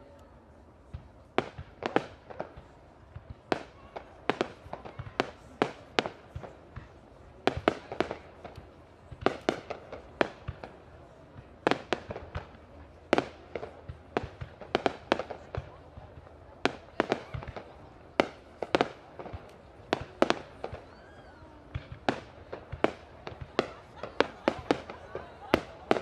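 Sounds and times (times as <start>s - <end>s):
firework bangs: 1.1s - 26.0s.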